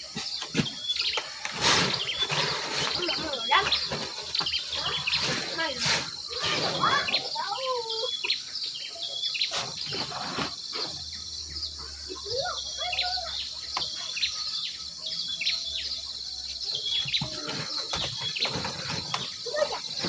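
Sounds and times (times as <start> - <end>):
bird chirps: 0.0 - 20.0
high-pitched insect chorus: 0.0 - 20.0.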